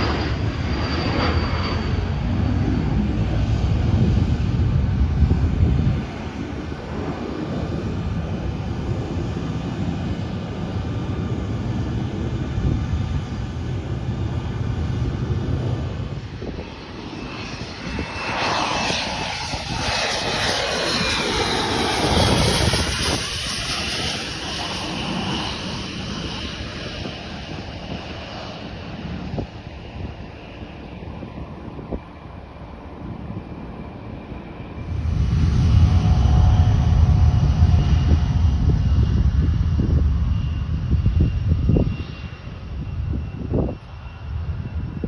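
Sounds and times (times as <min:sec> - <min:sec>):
airplane engine rumble: 0:00.0 - 0:45.0
airplane passing overhead: 0:00.0 - 0:45.0.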